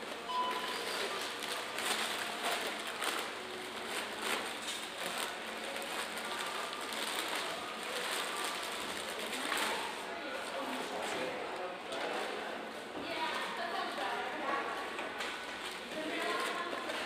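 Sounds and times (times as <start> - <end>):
grocery bags rustling and crinkling: 0.0 - 11.4, 13.2 - 17.0.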